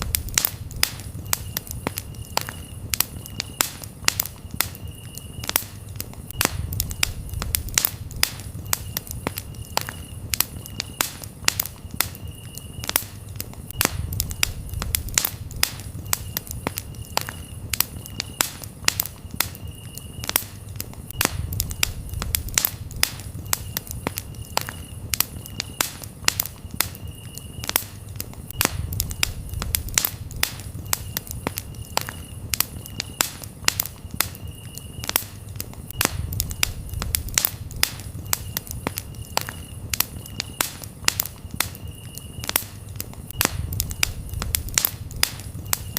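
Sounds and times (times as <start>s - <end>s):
burning wood popping: 0.0s - 45.9s
campfire crackling: 0.0s - 45.9s
crickets chirping: 0.0s - 45.9s
low rumble of flames: 0.0s - 45.9s.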